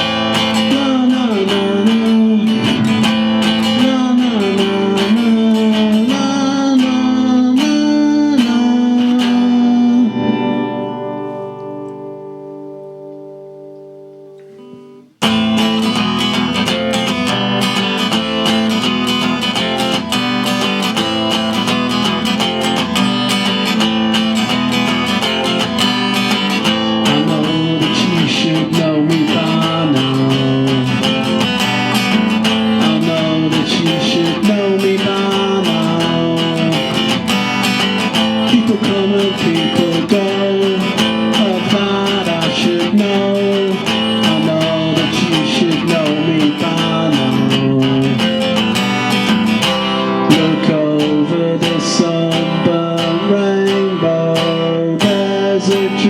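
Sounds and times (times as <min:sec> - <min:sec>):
acoustic guitar strumming and picking: 0:00.0 - 0:56.0.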